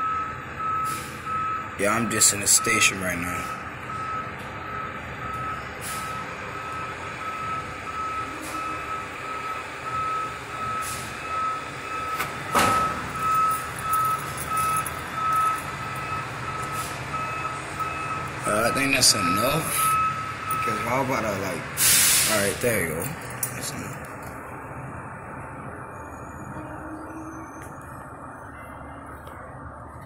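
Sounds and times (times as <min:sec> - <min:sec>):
truck backup alarm beeping: 0:00.0 - 0:29.7
diesel engine rumble: 0:00.0 - 0:30.0.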